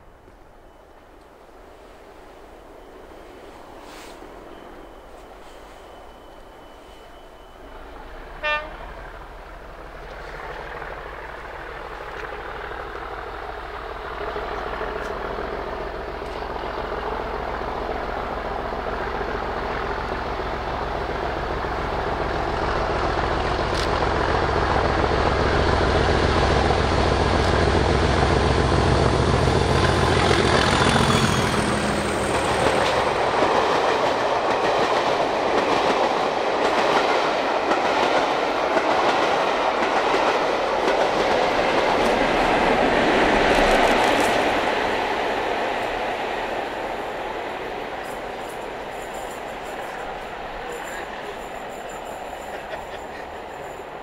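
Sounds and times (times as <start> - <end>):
diesel locomotive engine: 0.0 - 54.0
train coaches clickety-clack: 3.0 - 54.0.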